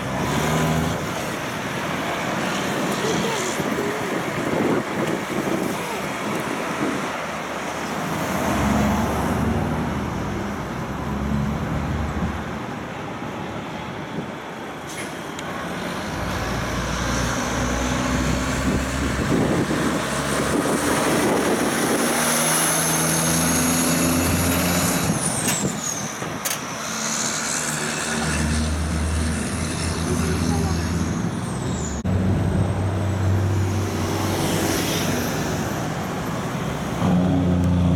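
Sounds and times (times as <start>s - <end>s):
diesel trucks passing: 0.0s - 37.9s.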